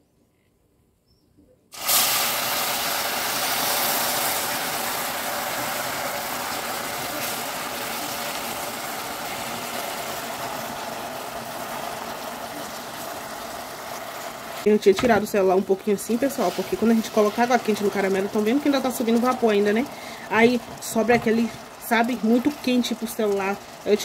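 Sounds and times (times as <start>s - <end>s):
water sizzling on hot caramel: 1.7s - 24.0s.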